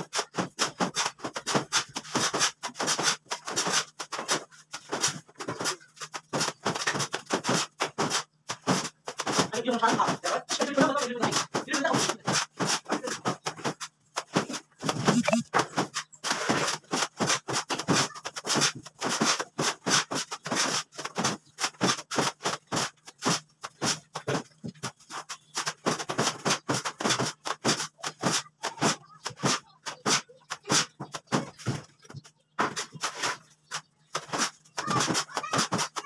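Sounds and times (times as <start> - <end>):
mortar slapping on ceiling: 0.0 - 36.0.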